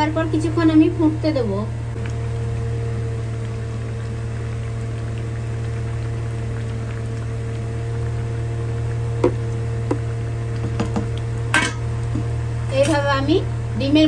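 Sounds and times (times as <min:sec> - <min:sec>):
gravy bubbling in a pan: 0:00.0 - 0:14.0
steady low hum: 0:00.0 - 0:14.0.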